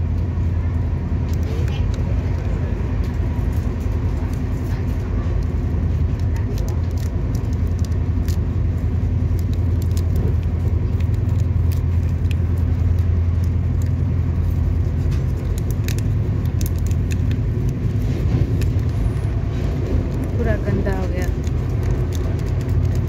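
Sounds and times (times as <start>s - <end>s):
train rumbling: 0.0s - 23.0s
paper sachet crinkling: 3.2s - 23.0s.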